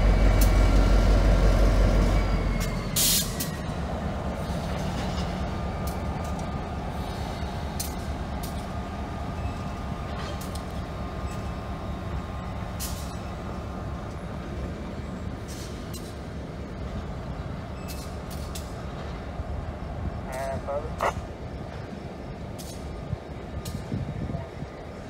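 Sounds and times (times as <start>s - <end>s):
diesel locomotive rumbling: 0.0s - 25.0s
metallic clanks from rail cars: 0.0s - 25.0s.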